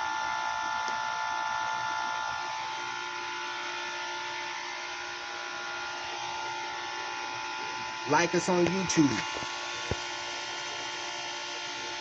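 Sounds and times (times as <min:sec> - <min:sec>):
washing machine motor whine: 0:00.0 - 0:12.0.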